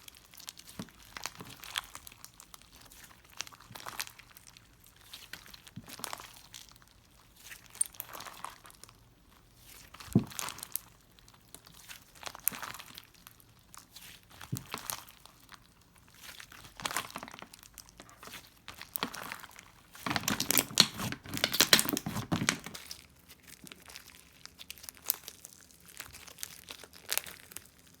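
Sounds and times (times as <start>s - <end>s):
slime crackling and popping: 0.0s - 28.0s.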